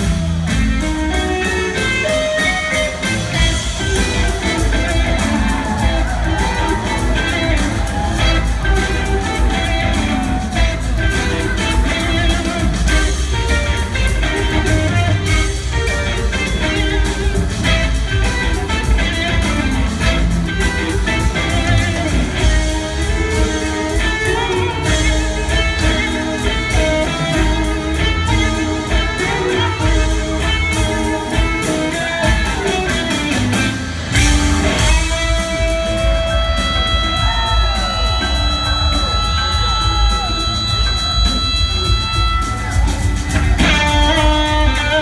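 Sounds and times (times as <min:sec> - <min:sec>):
blues-rock band playing: 0:00.0 - 0:45.0
electric guitar bending notes: 0:00.0 - 0:45.0.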